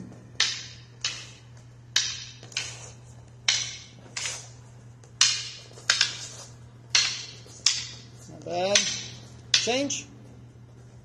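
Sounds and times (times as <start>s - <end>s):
wooden sticks clacking: 0.3s - 10.0s.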